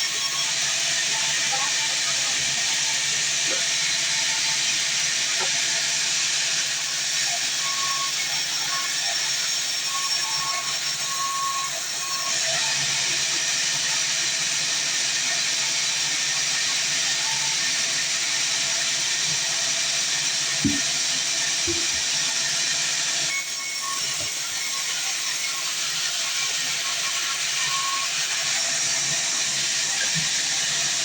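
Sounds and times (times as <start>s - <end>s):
sawmill saw cutting log: 0.0s - 31.0s.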